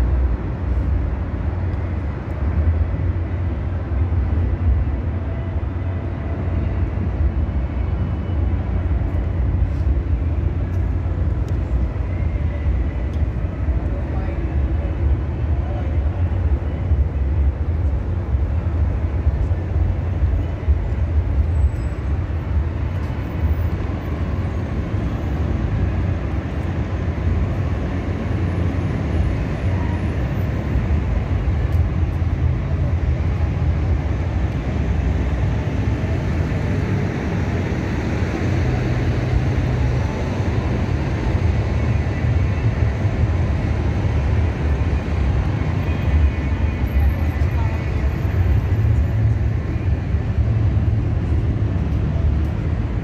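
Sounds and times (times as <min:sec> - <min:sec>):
traffic rumble of cars and buses: 0:00.0 - 0:53.0.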